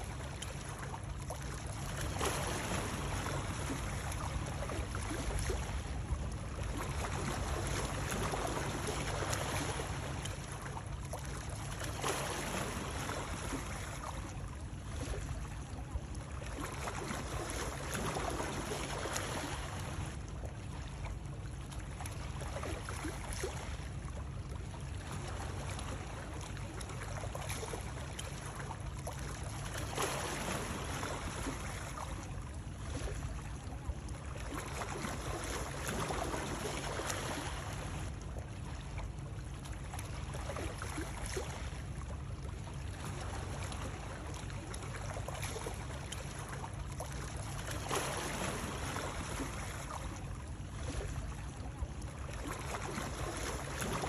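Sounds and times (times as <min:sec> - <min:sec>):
water washing and lapping: 0:00.0 - 0:54.0.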